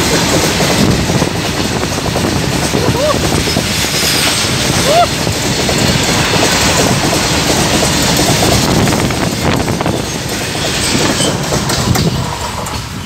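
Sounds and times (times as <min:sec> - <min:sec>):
freight train wheels on rails: 0:00.0 - 0:13.0.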